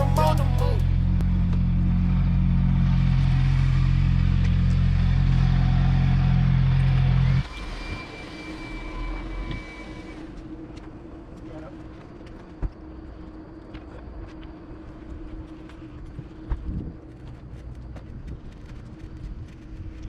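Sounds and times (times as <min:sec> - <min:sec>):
quiet street ambience: 0:00.0 - 0:20.0.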